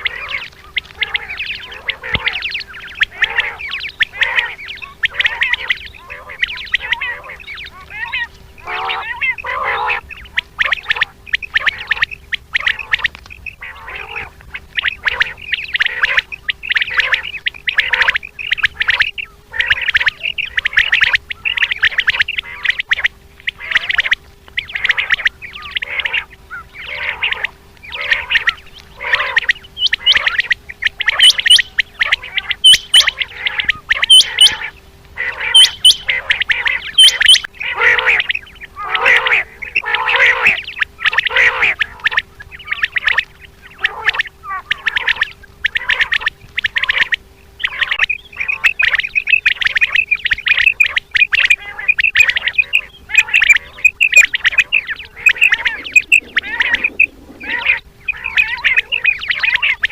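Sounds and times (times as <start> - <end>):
faint steady hum: 0.0 - 59.9
quail calling: 0.0 - 59.9.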